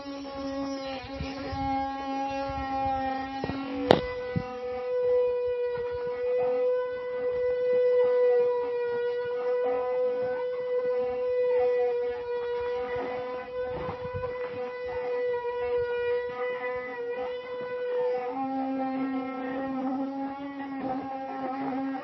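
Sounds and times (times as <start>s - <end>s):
wooden axle whining: 0.0s - 22.0s.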